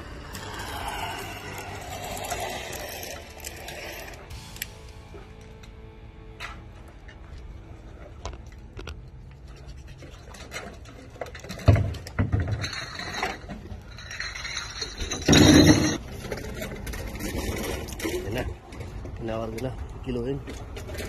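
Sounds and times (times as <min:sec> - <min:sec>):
recyclables scraping and clattering: 0:00.0 - 0:05.3, 0:07.8 - 0:21.0.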